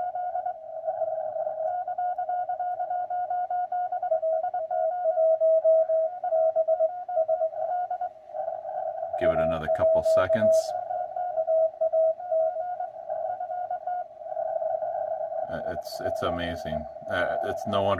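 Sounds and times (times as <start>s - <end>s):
louder lower morse signal: 0.0s - 3.0s, 4.0s - 17.9s
morse code tones: 0.0s - 17.9s.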